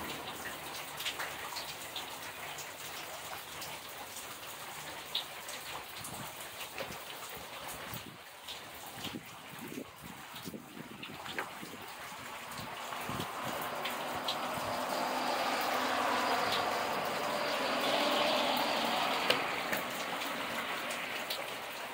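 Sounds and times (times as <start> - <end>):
rain falling on standing water: 0.0 - 21.9
sharp close raindrops: 0.0 - 21.9.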